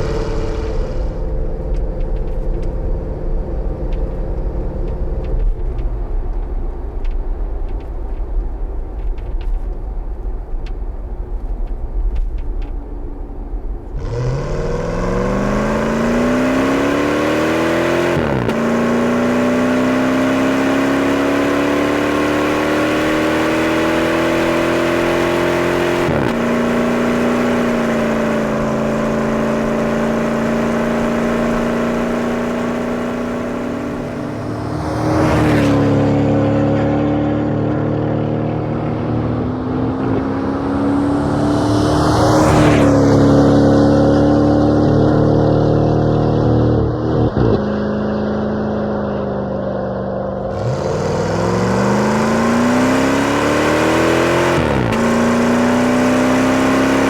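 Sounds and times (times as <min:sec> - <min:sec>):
car engine rumbling and accelerating: 0:00.0 - 0:57.0.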